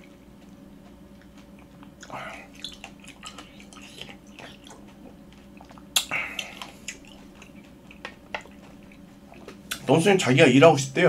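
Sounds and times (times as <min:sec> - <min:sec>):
chewing soft food: 0:00.0 - 0:09.9.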